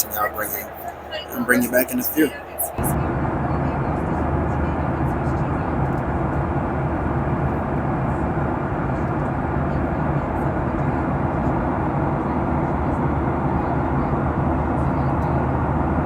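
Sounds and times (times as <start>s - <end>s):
airplane cabin airflow rush: 0.0s - 16.0s
low engine hum: 2.9s - 16.0s.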